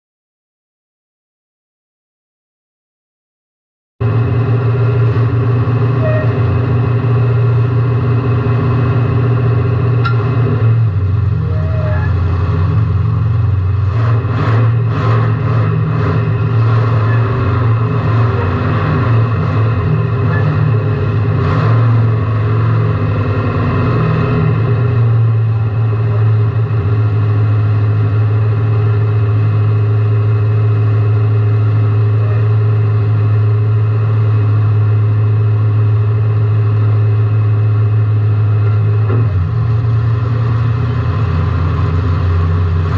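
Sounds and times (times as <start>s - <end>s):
car engine running loudly: 4.0s - 42.9s.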